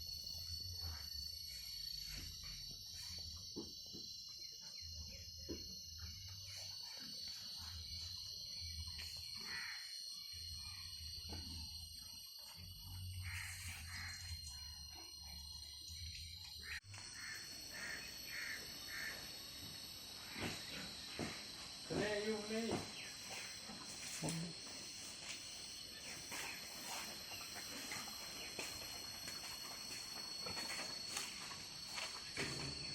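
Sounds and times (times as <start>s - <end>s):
insects trilling: 0.0s - 32.9s
steady high-pitched whine: 0.0s - 32.9s.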